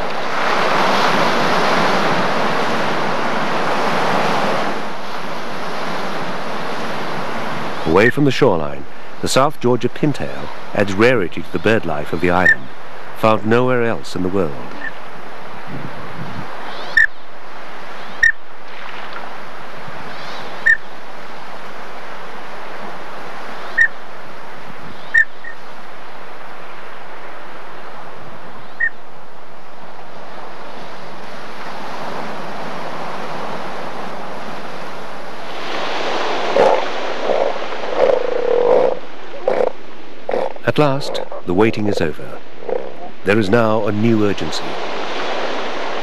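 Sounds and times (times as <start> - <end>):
surf washing: 0.0 - 46.0
wind: 0.0 - 46.0.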